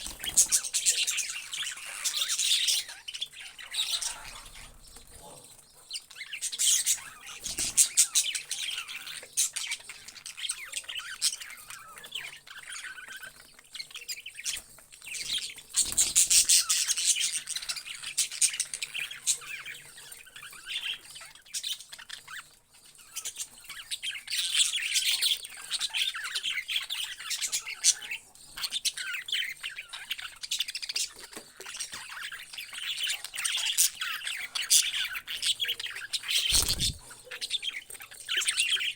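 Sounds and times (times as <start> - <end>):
parrots chirping and squawking: 0.0 - 38.9.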